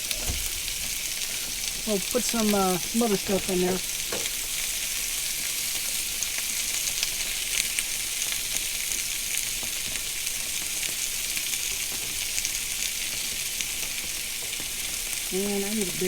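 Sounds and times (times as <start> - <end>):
sausage and onions sizzling: 0.0 - 16.0.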